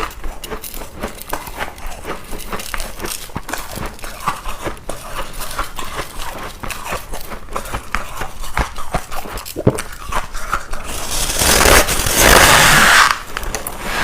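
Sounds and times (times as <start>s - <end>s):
crunching and chewing ice: 0.0s - 12.2s.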